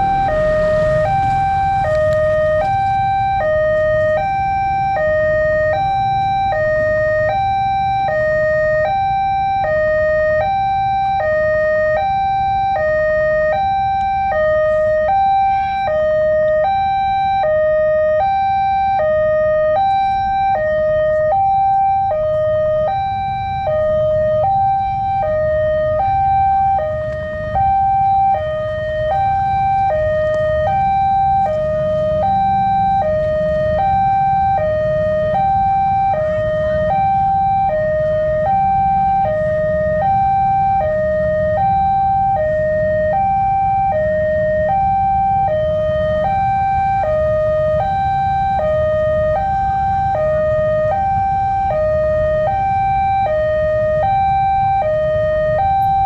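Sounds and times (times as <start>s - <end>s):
two-tone level crossing siren: 0.0s - 56.0s.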